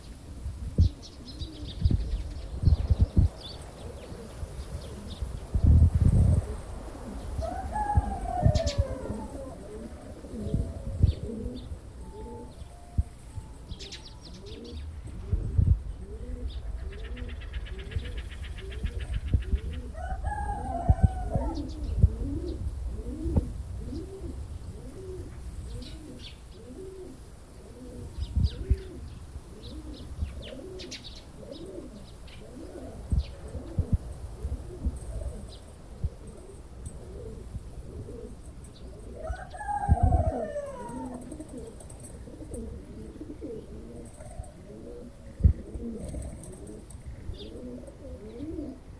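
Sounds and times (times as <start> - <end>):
pigeons cooing: 0.8 - 48.9.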